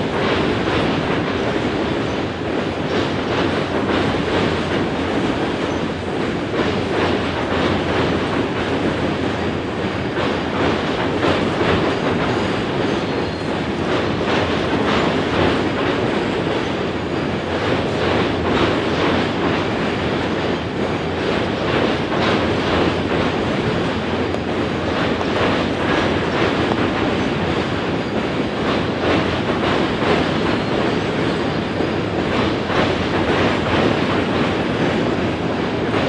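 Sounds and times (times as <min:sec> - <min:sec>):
steel wheels rumbling on rail: 0:00.0 - 0:36.0.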